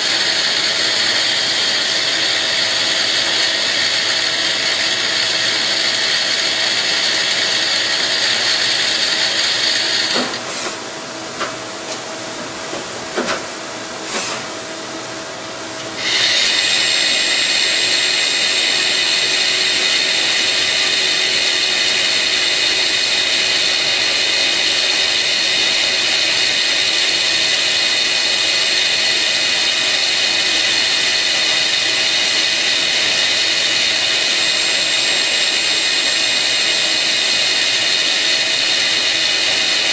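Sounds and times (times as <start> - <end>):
lathe whining: 0.0 - 10.4, 15.8 - 39.9.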